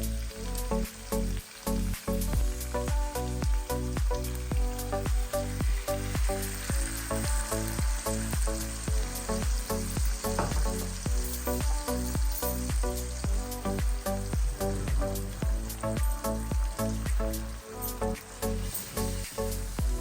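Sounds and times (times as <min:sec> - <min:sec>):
background music with steady beat: 0:00.0 - 0:20.0
fish sizzling in hot oil: 0:00.0 - 0:20.0.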